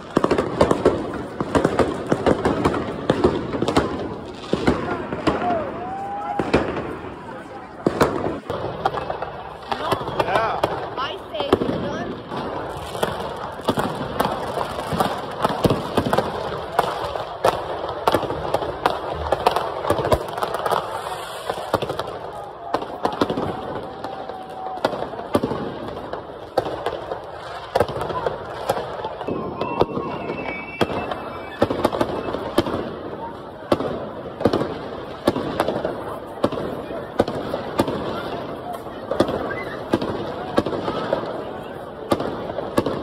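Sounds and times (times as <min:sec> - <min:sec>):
crowd hubbub: 0:00.0 - 0:43.0
fireworks bangs and cracks: 0:00.0 - 0:43.0.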